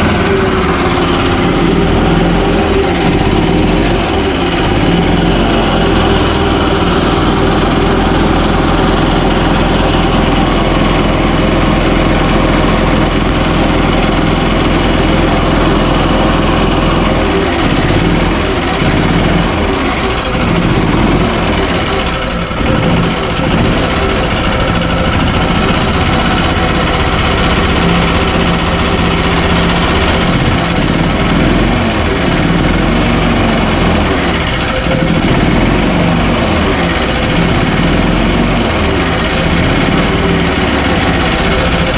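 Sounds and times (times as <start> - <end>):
golf cart engine running: 0.0 - 41.9.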